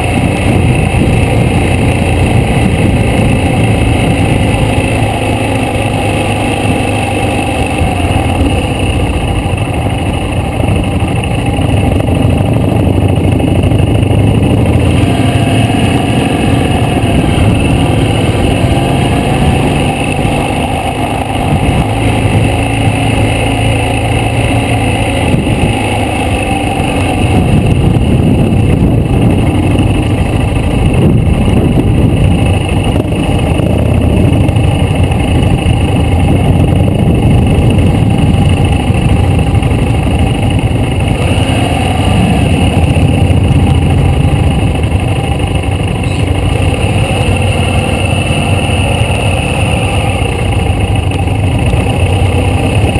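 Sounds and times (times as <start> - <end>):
motorcycle engine revving: 0.0 - 52.9
wind rush on microphone: 0.0 - 52.9.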